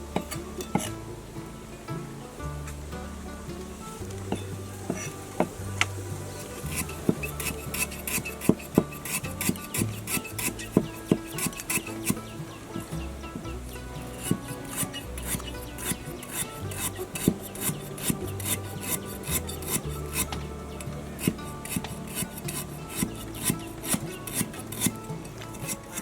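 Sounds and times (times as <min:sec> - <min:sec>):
rhythmic rasping scrapes: 0:00.0 - 0:26.0
soft background music: 0:00.0 - 0:26.0.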